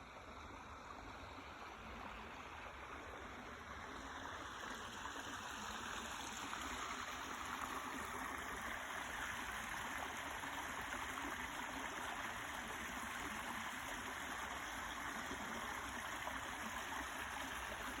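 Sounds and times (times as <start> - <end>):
water flowing in a stream: 0.0 - 18.0.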